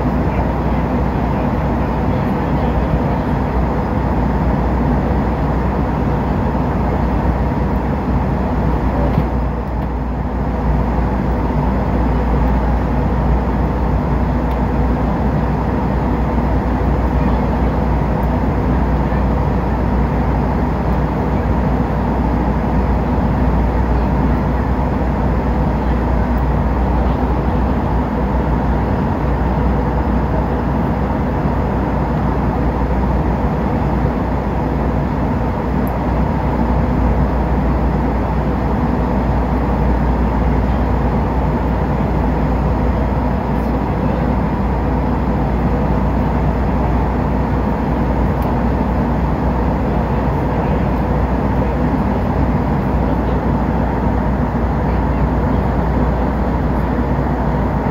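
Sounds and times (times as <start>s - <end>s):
airliner cabin engine rush: 0.0s - 57.9s
faint steady hum: 0.0s - 57.9s.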